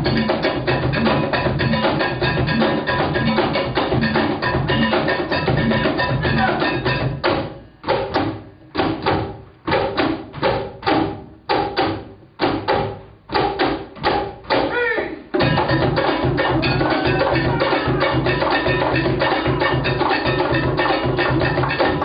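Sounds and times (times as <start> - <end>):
percussion music led by cajon: 0.0 - 22.0.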